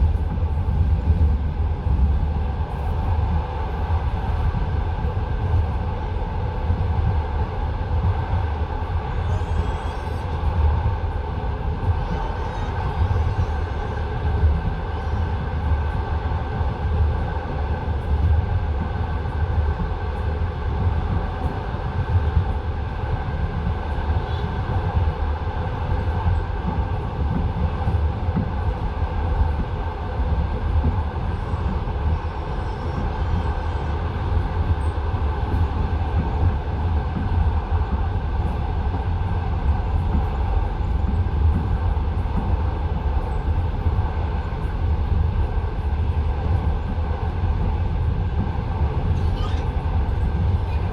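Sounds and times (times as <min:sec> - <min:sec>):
train carriage rumble: 0:00.0 - 0:50.9.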